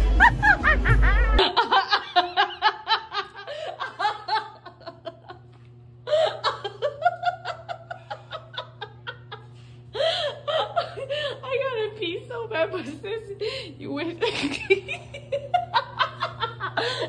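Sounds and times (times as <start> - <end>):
person laughing: 0.0 - 11.4, 14.2 - 17.0.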